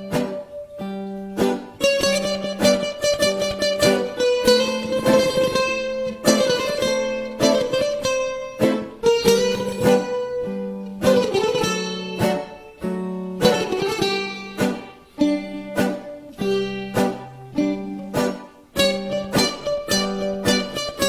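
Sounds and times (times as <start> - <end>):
bouzoukis playing: 0.0 - 21.0.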